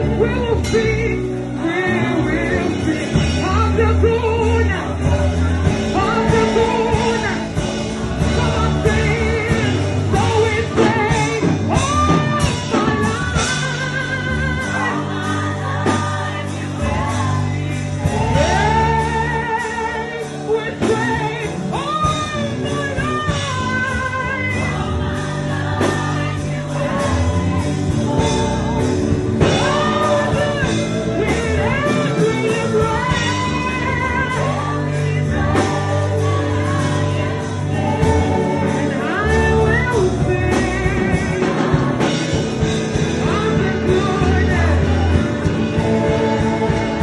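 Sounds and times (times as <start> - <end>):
band with bass and drums: 0.0 - 47.0.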